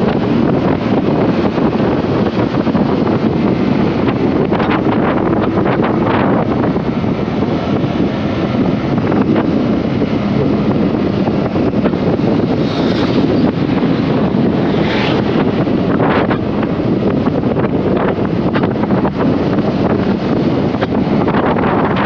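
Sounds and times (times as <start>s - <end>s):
wind rush on microphone: 0.0s - 22.0s.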